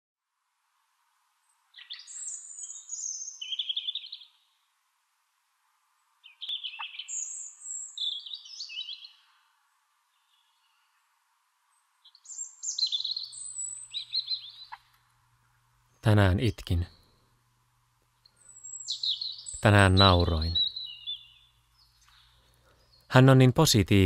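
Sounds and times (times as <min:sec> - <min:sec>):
faint outdoor hiss: 0:00.2 - 0:24.0
songbird singing: 0:01.4 - 0:04.8, 0:05.8 - 0:24.0.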